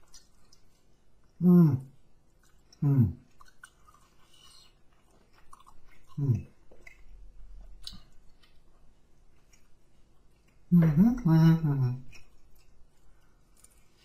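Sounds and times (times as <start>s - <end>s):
person chewing food: 0.0s - 1.4s, 2.0s - 10.7s, 12.0s - 14.0s.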